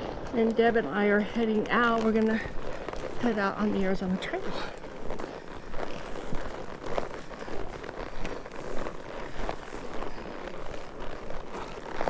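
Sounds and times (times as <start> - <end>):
horse hooves walking on dirt: 0.0 - 12.0
rustle of movement: 0.0 - 12.0
wind: 0.0 - 12.0.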